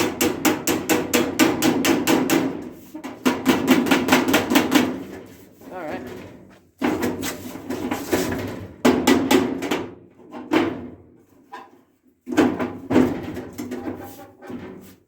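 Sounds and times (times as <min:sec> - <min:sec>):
banging on sheet-metal toolbox: 0:00.0 - 0:05.3, 0:06.1 - 0:11.2, 0:12.2 - 0:14.8.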